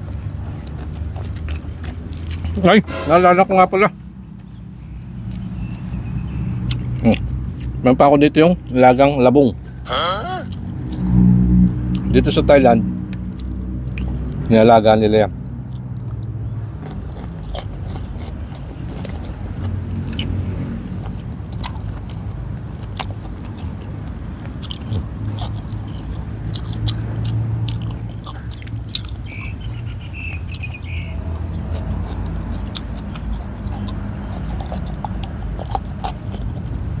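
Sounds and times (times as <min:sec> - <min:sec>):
biting and chewing crunchy food: 0:00.0 - 0:02.8, 0:03.9 - 0:09.1, 0:10.4 - 0:12.2, 0:13.1 - 0:14.5, 0:15.5 - 0:37.0.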